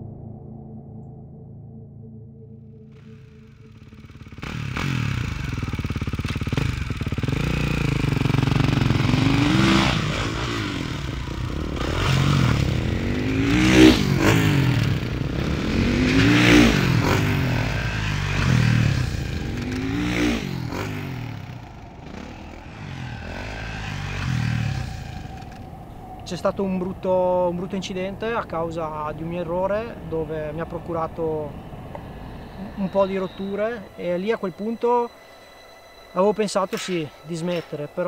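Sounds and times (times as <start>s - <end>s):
dirt bike engine revving: 3.0s - 38.0s.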